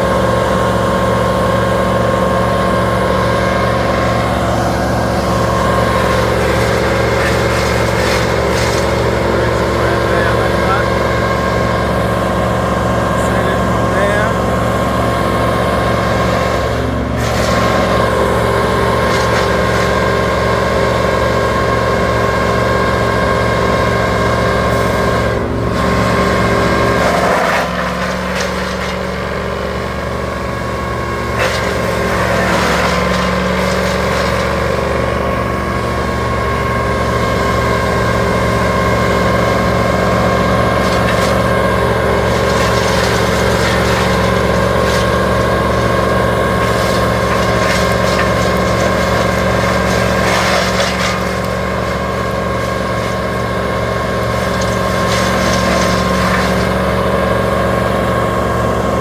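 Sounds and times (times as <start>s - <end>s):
large engine running: 0.0s - 59.0s.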